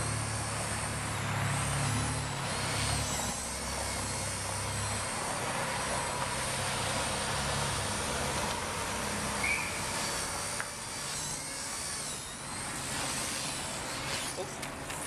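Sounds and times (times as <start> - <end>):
rc helicopter motor whine: 0.0 - 15.0
steady background rush: 0.0 - 15.0.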